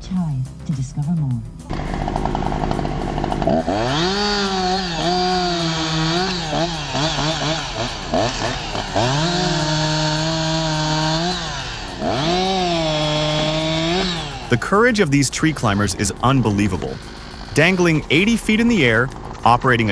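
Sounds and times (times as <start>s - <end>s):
chainsaw engine revving: 1.7s - 19.9s.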